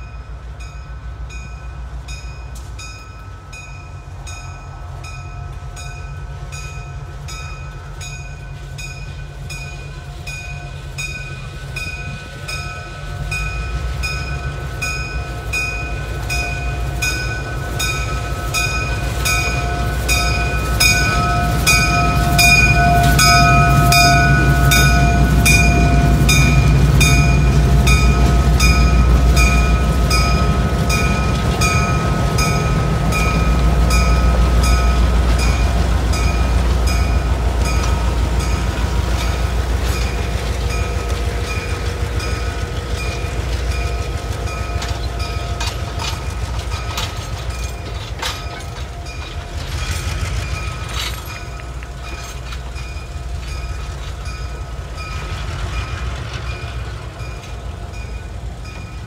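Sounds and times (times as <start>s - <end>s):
train rumbling: 0.0s - 59.0s
bell ringing: 2.8s - 55.1s.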